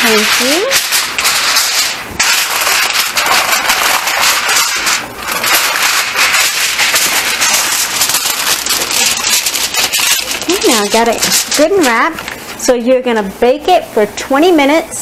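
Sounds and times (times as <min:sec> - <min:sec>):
aluminium foil crinkling: 0:00.0 - 0:12.6.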